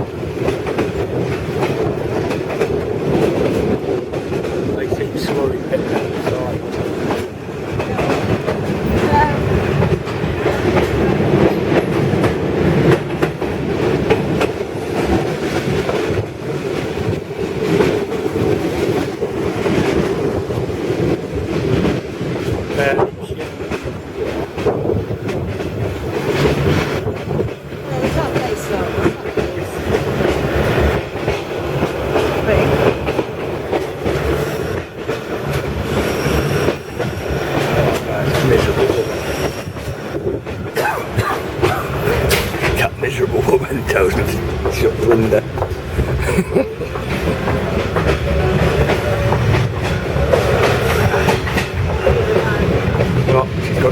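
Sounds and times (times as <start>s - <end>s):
train carriage rumble: 0.0s - 53.9s
wheels clicking over rails: 0.0s - 53.9s.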